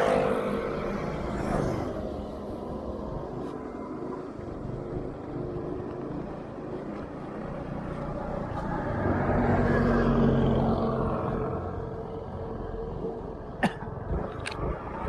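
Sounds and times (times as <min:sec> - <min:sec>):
louder engine hum: 0:00.0 - 0:15.0
motorbike engine and wind rumble: 0:00.0 - 0:15.0.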